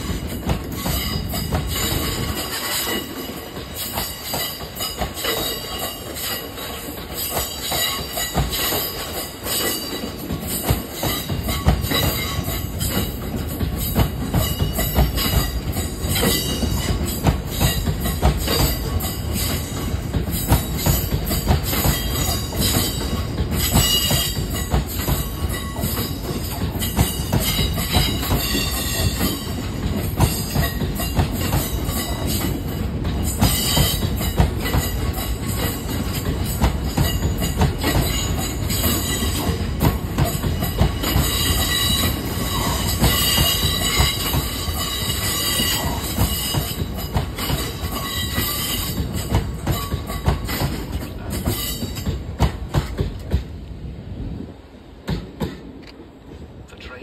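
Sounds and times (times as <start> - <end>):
train wheels clacking over rail joints: 0.0 - 56.4.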